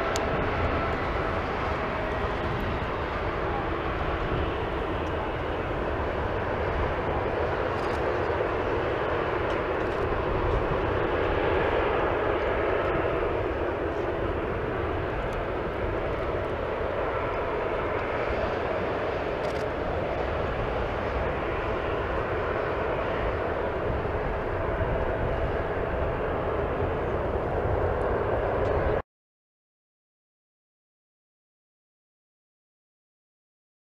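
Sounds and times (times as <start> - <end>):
jet engines at take-off thrust: 0.0 - 29.0.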